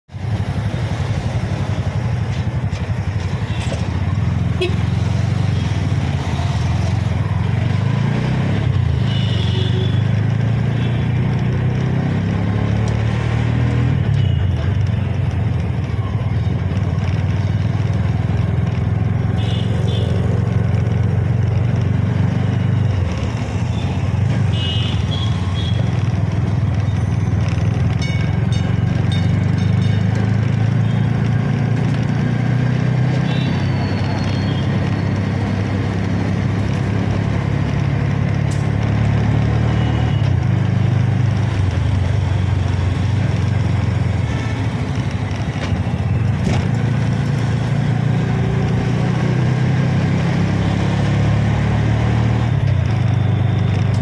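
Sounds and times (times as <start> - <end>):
high-pitched traffic sounds: 0.2 - 54.0.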